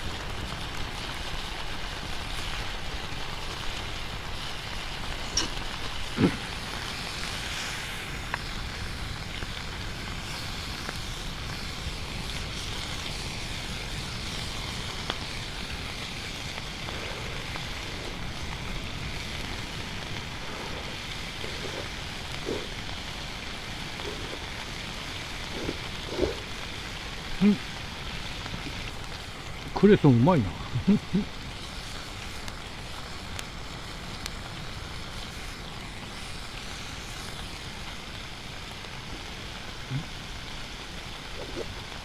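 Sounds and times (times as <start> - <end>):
faint campfire pops: 0.0 - 42.0
wind: 0.0 - 42.0.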